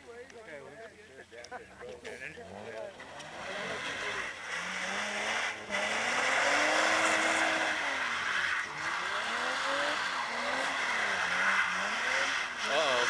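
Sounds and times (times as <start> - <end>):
car engine revving: 1.9 - 13.0.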